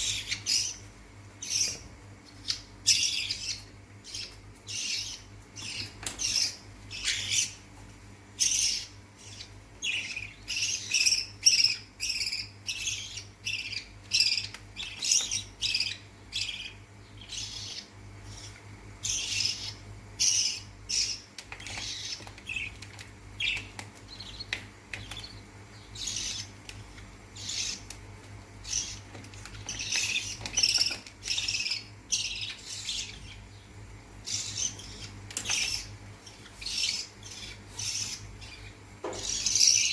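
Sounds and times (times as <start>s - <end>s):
bird chicks squawking: 0.0s - 7.7s, 8.3s - 27.9s, 28.6s - 39.9s.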